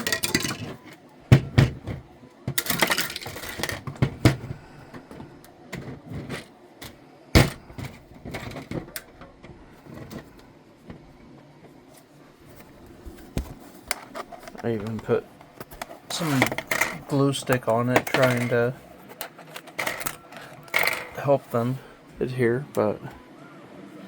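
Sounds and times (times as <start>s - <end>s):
plastic parts clicking and knocking: 0.0s - 11.0s, 13.3s - 21.7s.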